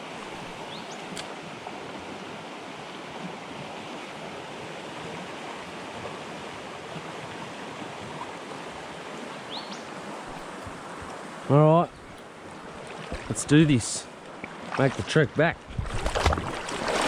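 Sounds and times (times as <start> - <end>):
river water rushing: 0.0 - 15.3, 16.0 - 17.0.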